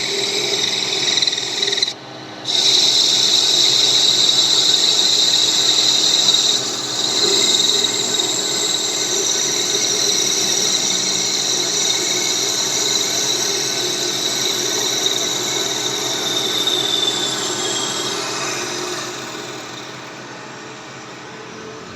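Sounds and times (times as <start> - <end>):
lathe cutting with high whine: 0.0 - 21.9.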